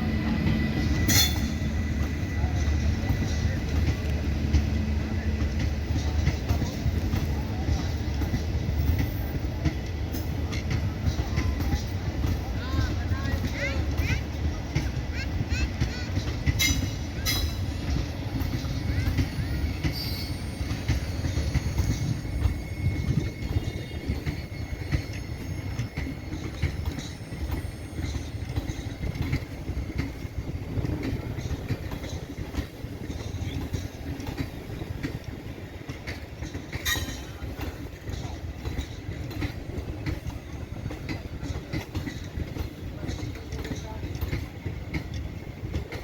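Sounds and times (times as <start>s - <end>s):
train wheels rumbling on track: 0.0s - 46.0s
clicks of wheels on rails: 0.5s - 46.0s.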